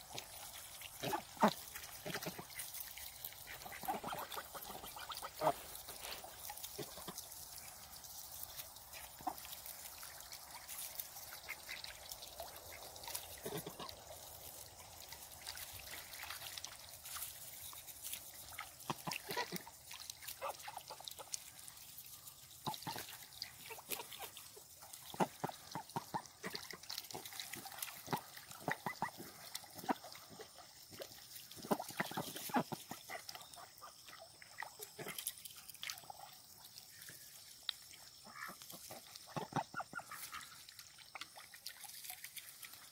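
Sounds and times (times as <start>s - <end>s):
ducks dabbling in water: 0.0s - 42.9s.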